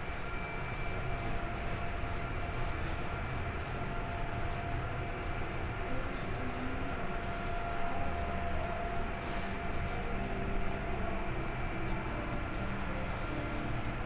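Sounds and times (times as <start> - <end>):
ship machinery low rumble: 0.0 - 14.0.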